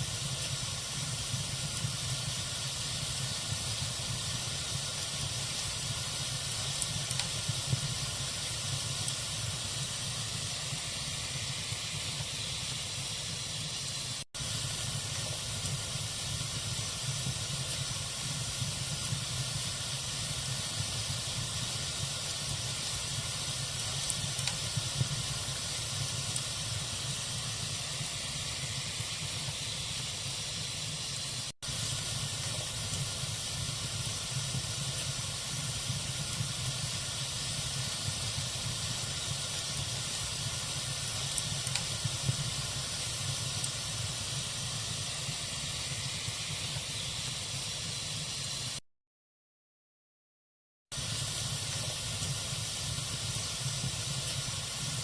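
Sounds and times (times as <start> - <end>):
fire crackling: 0.0 - 48.8, 51.0 - 55.0
log fire hissing: 0.0 - 48.8, 50.9 - 55.0.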